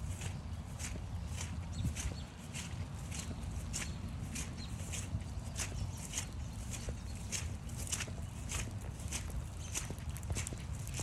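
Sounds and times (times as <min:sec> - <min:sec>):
footsteps on forest trail: 0:00.0 - 0:11.0.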